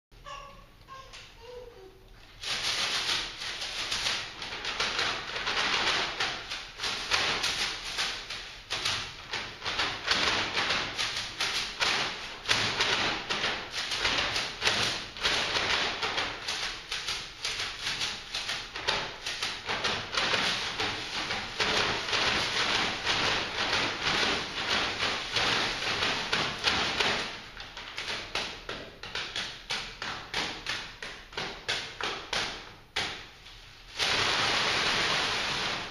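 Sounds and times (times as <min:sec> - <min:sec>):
paper bags crinkling and tapping: 0:02.3 - 0:35.9.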